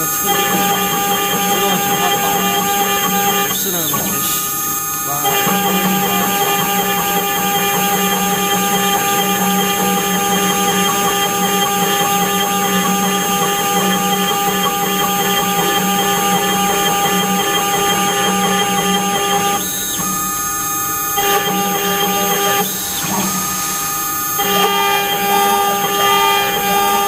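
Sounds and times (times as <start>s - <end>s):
cutter grinding metal: 0.0s - 27.0s
spindle whine: 0.0s - 27.0s.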